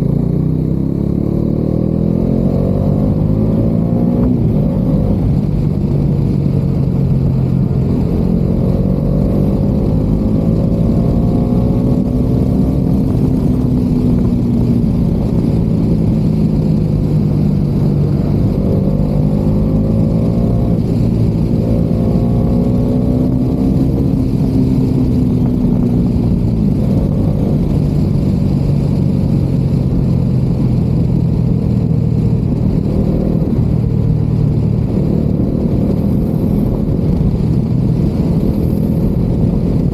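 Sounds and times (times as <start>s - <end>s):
heavy wind noise: 0.0s - 39.9s
road rumble: 0.0s - 39.9s.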